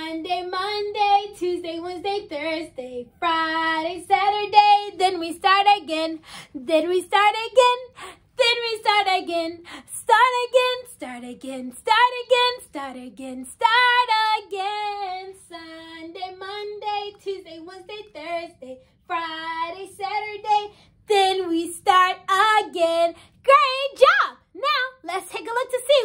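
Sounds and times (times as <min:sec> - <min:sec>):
woman singing: 0:00.0 - 0:26.0.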